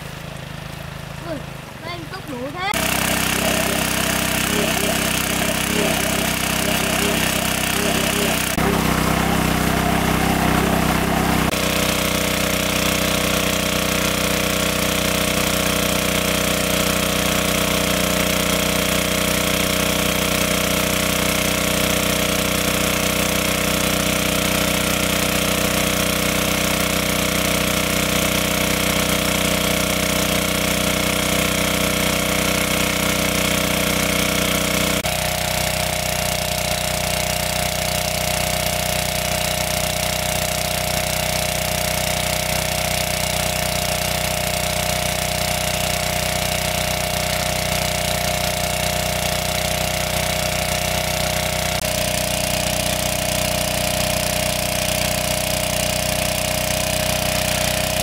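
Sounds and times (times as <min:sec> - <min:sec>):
water pump engine running: 0:00.0 - 0:58.0.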